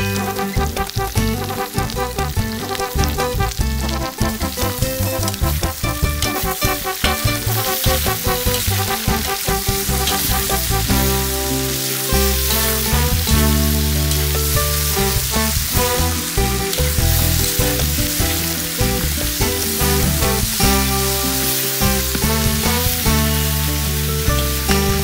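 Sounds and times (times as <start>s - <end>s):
background music with bass: 0.0s - 25.0s
onions and meat sizzling: 0.0s - 25.0s.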